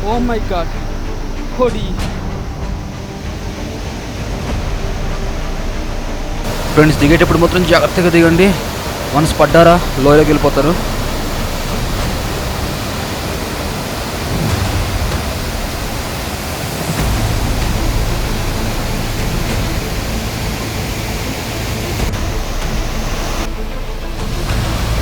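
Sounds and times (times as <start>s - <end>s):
waterfall rushing: 2.9s - 25.0s.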